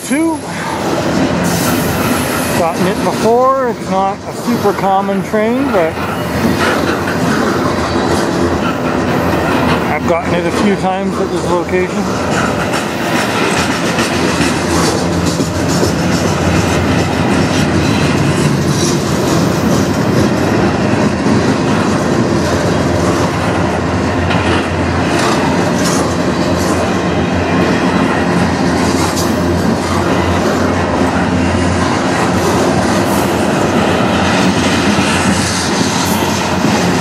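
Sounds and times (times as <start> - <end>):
clickety-clack over rail joints: 0.0 - 37.0
train wheels rumbling on rail: 0.0 - 37.0.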